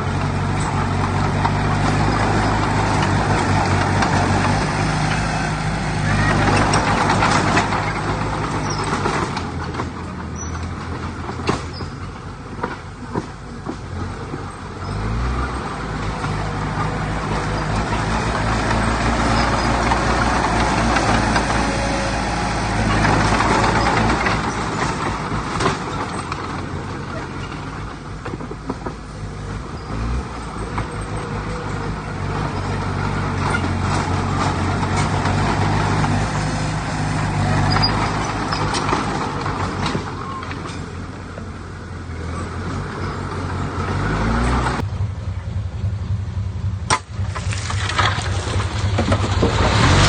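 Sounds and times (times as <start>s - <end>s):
clattering mechanical din: 0.0s - 14.6s, 15.4s - 41.1s, 46.8s - 50.0s
heavy diesel engine under load: 0.0s - 50.0s.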